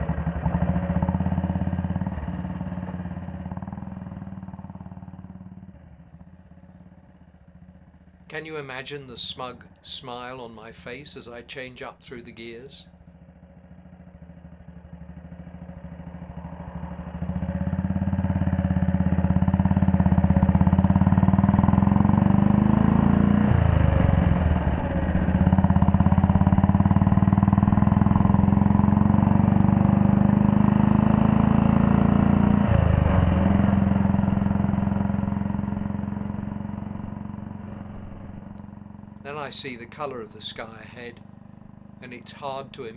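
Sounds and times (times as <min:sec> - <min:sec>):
motorcycle engine changing gears: 0:00.0 - 0:08.1, 0:13.6 - 0:42.9.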